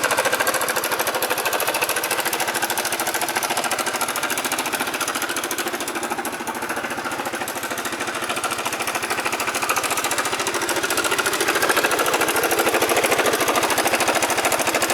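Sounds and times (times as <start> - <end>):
scooter engine running: 0.0 - 14.9.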